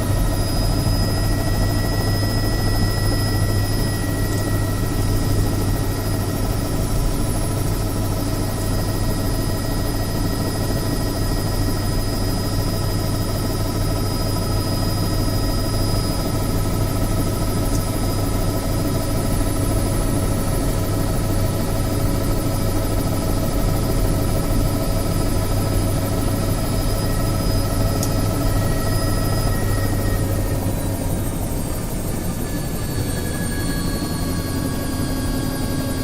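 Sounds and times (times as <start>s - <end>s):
helicopter low drone: 0.0s - 36.0s
high-pitched helicopter whines: 0.0s - 36.0s.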